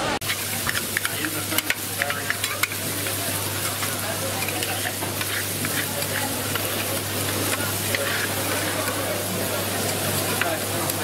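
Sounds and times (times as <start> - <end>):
meat sizzling on griddle: 0.2 - 11.0
metal utensil clicks on griddle: 0.3 - 9.0, 9.9 - 11.0.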